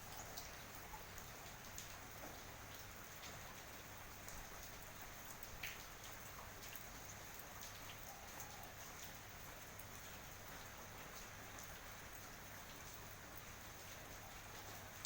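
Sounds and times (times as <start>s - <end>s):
light rain: 0.0s - 15.0s
raindrops ticking: 0.0s - 15.0s.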